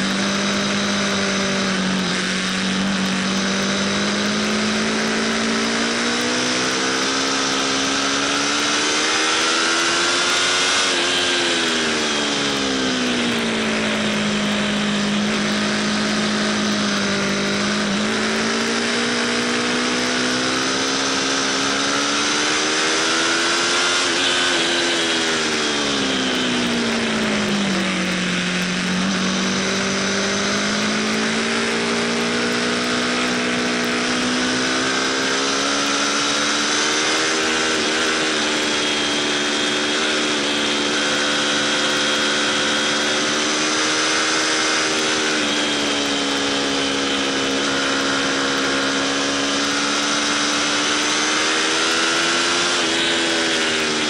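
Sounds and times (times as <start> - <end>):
motorcycle engine pulling hard: 0.0 - 54.0.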